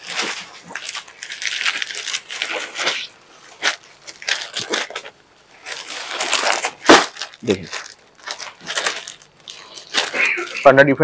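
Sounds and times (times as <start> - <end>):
cloth rustling: 0.0 - 10.8.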